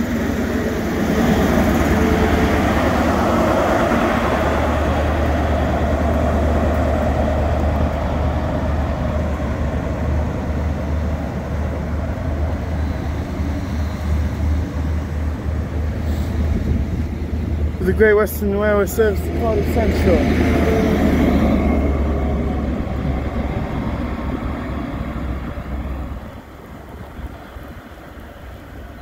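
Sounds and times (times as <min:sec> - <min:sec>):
diesel engine droning: 0:00.0 - 0:29.0
train wheels rumbling on rail: 0:00.0 - 0:29.0.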